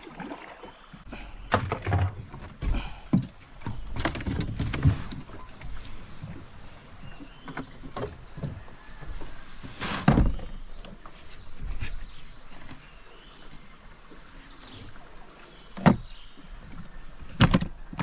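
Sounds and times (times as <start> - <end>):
knocks and thuds in boat: 0.2 - 12.8, 15.6 - 18.0.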